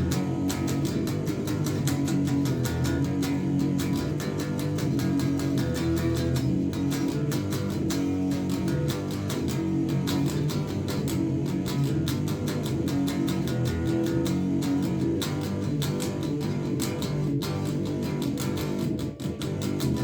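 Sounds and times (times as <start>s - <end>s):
drum beat ticking: 0.0s - 20.0s
fuzz electric guitar solo: 0.0s - 20.0s.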